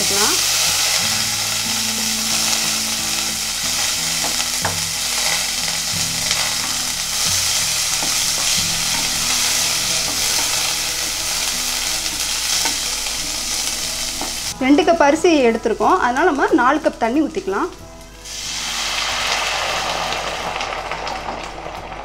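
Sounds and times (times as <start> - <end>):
food sizzling in butter: 0.0 - 22.0.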